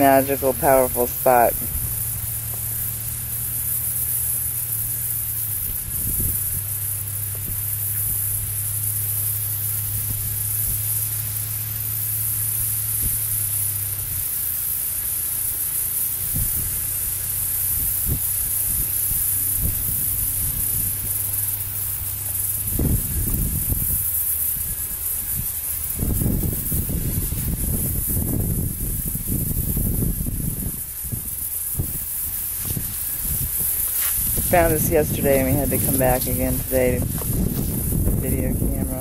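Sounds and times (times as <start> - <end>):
steady high hiss: 0.0 - 39.0.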